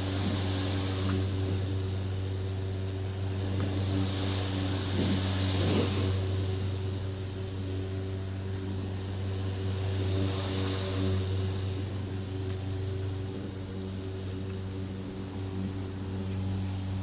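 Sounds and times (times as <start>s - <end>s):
lawn mower engine running: 0.0s - 17.0s
rushing hiss of mowing grass: 0.0s - 17.0s.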